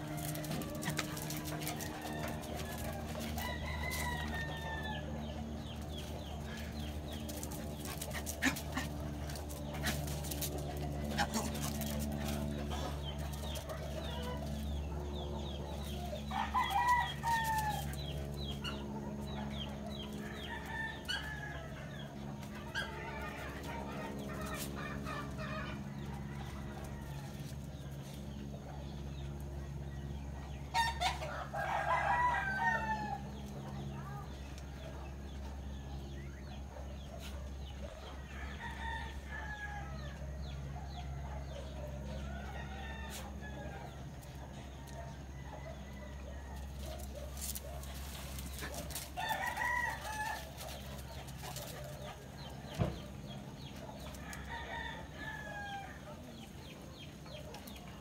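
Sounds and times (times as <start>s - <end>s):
roosters crowing: 0.0s - 58.0s
steady low hum: 0.0s - 58.0s.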